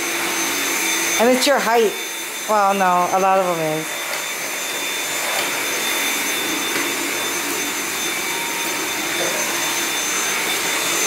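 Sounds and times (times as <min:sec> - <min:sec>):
stick vacuum running: 0:00.0 - 0:11.0.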